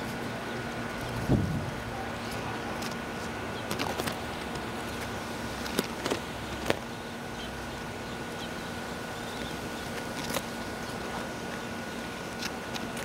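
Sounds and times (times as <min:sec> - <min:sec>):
outdoor hum and hiss: 0:00.0 - 0:13.0.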